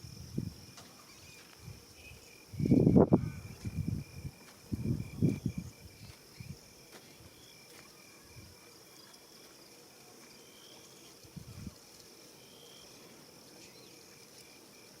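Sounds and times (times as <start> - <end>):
insects chirping: 0.0 - 15.0
steady high hiss: 0.0 - 15.0.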